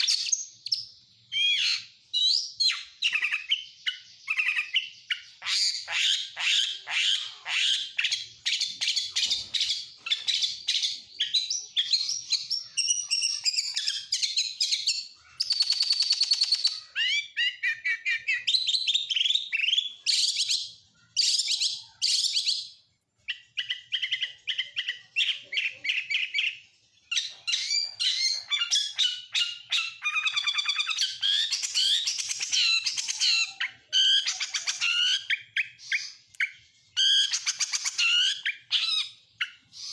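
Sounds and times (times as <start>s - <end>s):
magpie-robin singing whistles and chirps: 0.0s - 39.9s.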